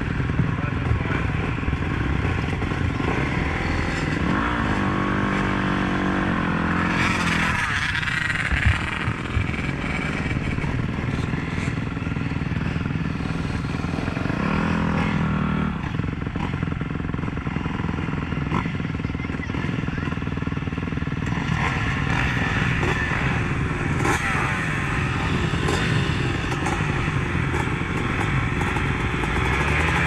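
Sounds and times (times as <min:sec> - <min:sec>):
dirt bike engine revving: 0:00.0 - 0:30.0
other motorcycle engines: 0:00.0 - 0:30.0.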